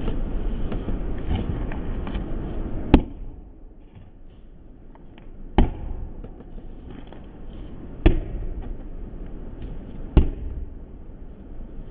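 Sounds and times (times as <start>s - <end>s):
low steady rumble: 0.0s - 11.9s.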